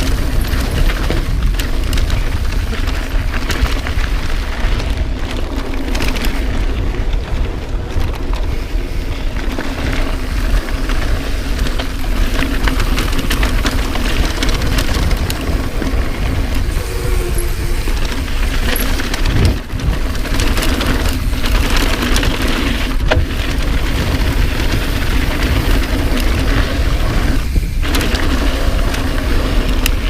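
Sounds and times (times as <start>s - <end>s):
bike chain and frame rattling: 0.0s - 30.0s
tyres on dirt trail: 0.0s - 30.0s
wind buffeting microphone: 0.0s - 30.0s.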